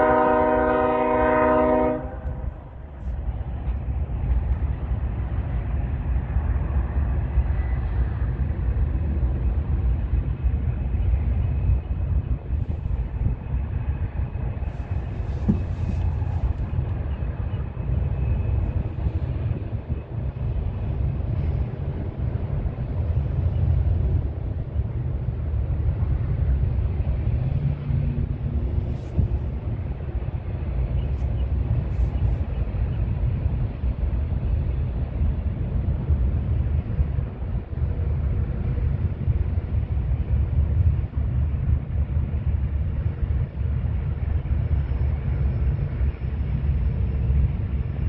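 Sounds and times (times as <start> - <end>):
distant diesel locomotives rumbling: 0.0 - 48.0.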